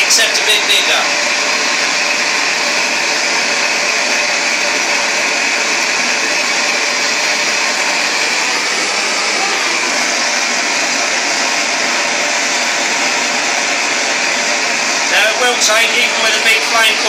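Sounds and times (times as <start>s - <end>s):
gas torch hissing: 0.0s - 17.0s.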